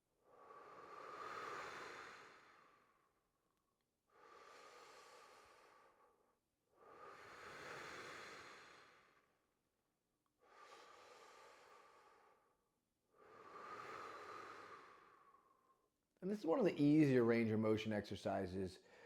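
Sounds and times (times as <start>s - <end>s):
slow deep breathing: 0.2s - 9.7s, 10.3s - 16.0s, 18.8s - 19.0s.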